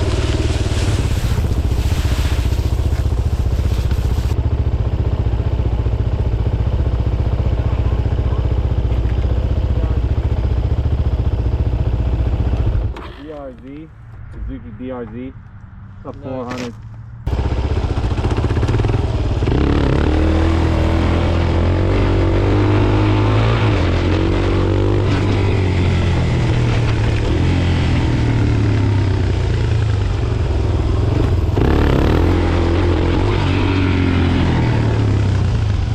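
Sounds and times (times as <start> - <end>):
motorcycle engine accelerating: 0.0 - 13.3, 16.5 - 35.9.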